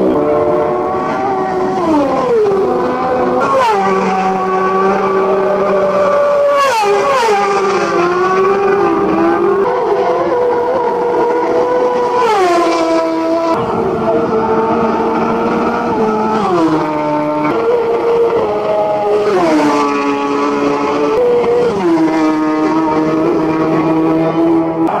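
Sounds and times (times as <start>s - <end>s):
motorcycles passing at full speed: 0.0s - 25.0s.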